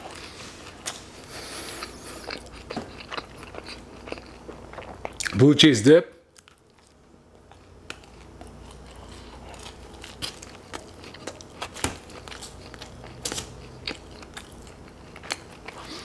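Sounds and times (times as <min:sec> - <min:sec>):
chewing crunchy food: 0:00.0 - 0:05.4, 0:06.3 - 0:16.0
low steady hum: 0:00.0 - 0:16.0.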